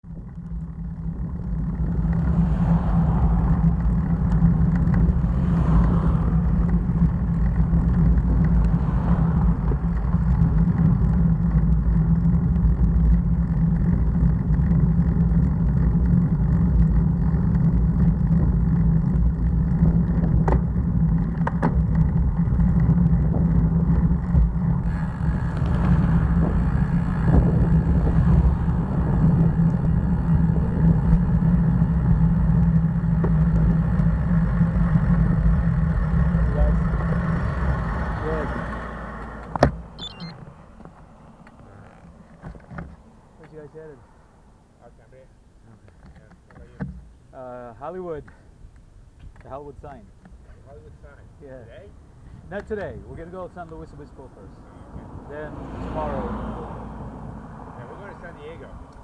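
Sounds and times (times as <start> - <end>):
road and wind noise: 0.0 - 59.0
vehicles passing: 0.0 - 59.0.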